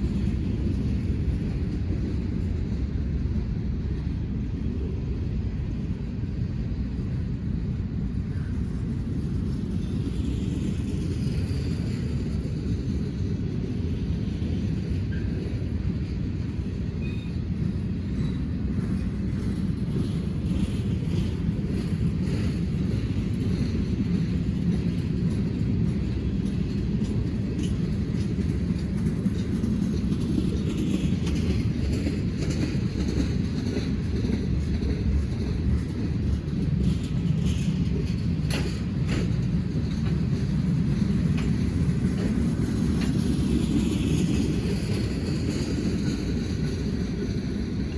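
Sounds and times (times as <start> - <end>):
train rumbling past: 0.0 - 47.9
train wheels clicking: 0.0 - 47.9.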